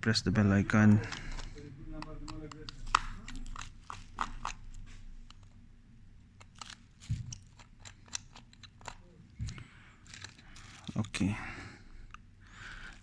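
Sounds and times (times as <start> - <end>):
plastic parts clicking and crackling: 0.4 - 13.0.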